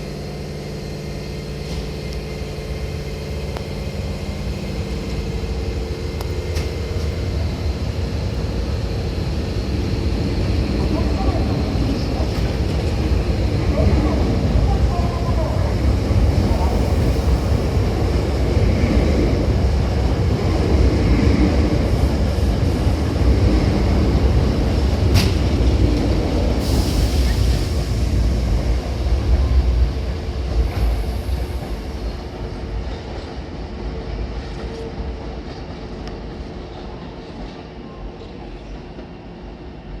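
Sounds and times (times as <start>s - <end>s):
electric train rumbling past: 0.0s - 40.0s.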